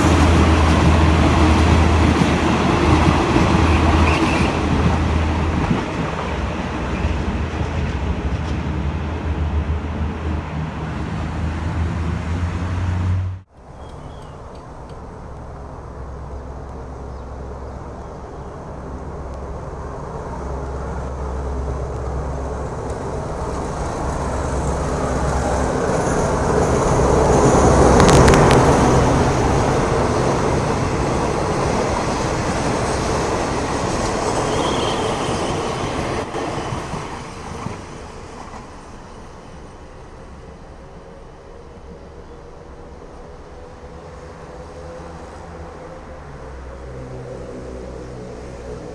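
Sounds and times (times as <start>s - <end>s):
locomotive engine humming: 0.0s - 48.9s
train carriages rumbling past: 0.0s - 48.9s.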